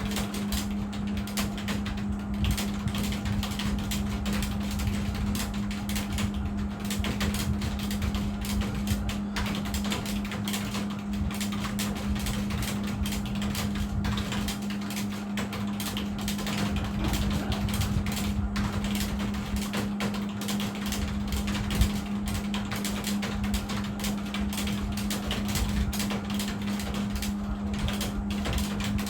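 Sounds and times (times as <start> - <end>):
fast keyboard typing: 0.0 - 29.0
steady low hum: 0.0 - 29.0.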